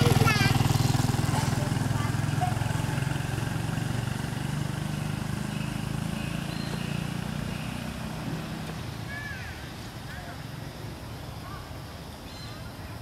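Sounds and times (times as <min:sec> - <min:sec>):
motor engine running: 0:00.0 - 0:11.6.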